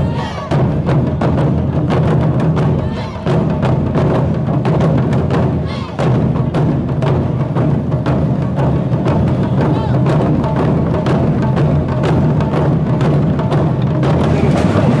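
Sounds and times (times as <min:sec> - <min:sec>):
festival music with drums: 0:00.0 - 0:15.0.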